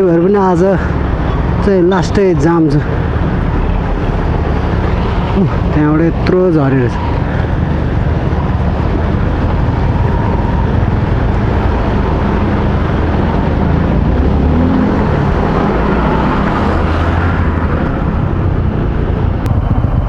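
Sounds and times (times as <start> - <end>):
motorcycle engine running: 0.0 - 20.0
road noise: 0.0 - 20.0.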